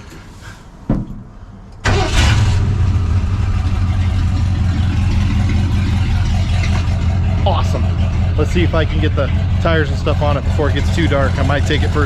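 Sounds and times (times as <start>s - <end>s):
engine starting and running: 1.7s - 12.0s.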